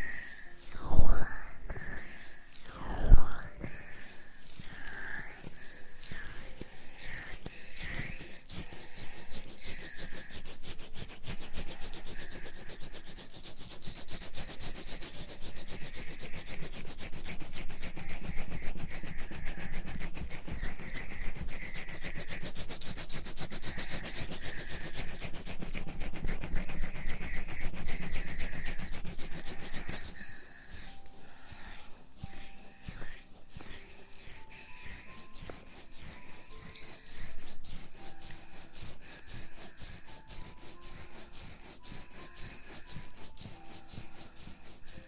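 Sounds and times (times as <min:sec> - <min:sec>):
rubbing and scratching on microphone: 0:00.0 - 0:45.0.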